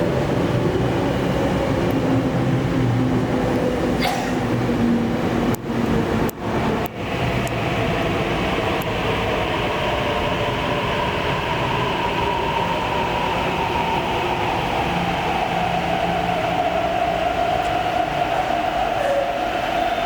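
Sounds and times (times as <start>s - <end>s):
metro train rail rumble: 0.0s - 20.0s.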